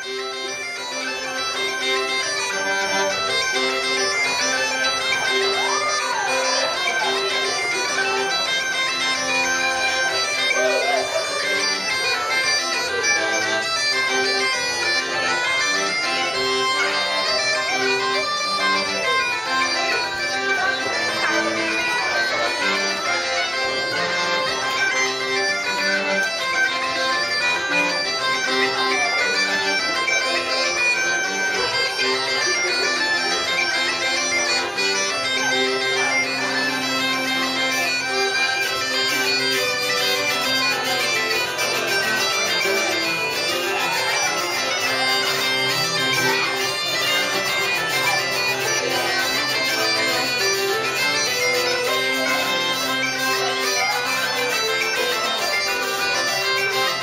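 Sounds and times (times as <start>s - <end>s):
reedy bagpipe-like melody: 0.0s - 57.0s.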